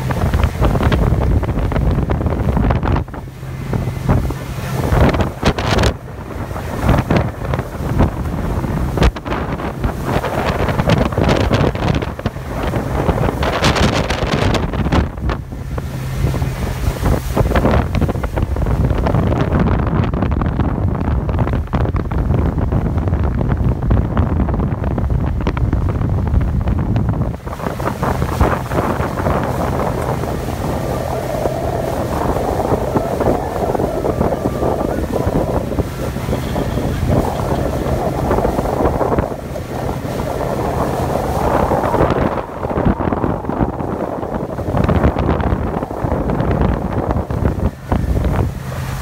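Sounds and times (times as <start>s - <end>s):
outboard motor hum: 0.0s - 49.0s
water rushing along hull: 0.0s - 49.0s
wind buffeting microphone: 0.0s - 49.0s.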